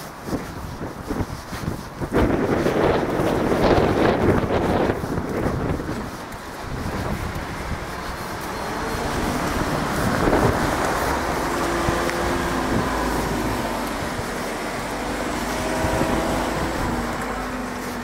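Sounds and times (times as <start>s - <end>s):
road traffic: 0.0s - 18.0s
vehicle engine drone: 0.0s - 18.0s
wind buffeting microphone: 0.0s - 18.0s.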